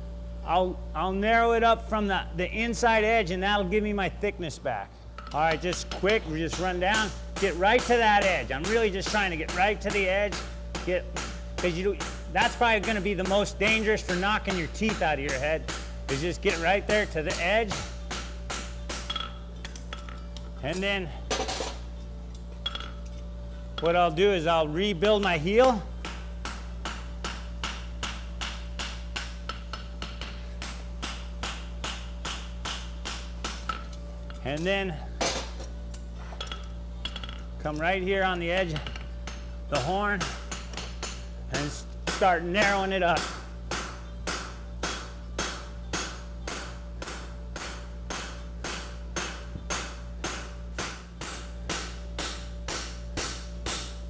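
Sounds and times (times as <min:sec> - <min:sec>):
steady low hum: 0:00.0 - 0:54.0
hammer striking hot steel on anvil: 0:05.2 - 0:21.8, 0:24.9 - 0:54.0.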